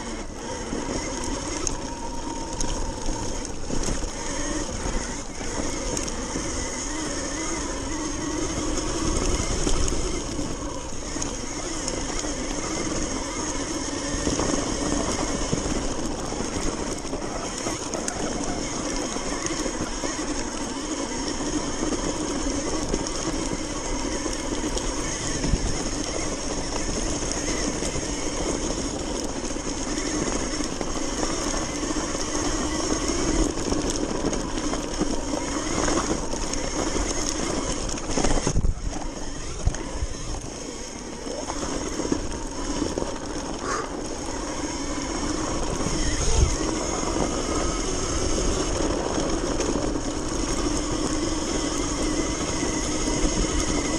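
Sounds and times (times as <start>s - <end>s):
electric motor whine: 0.0s - 53.9s
tyre noise: 0.0s - 53.9s.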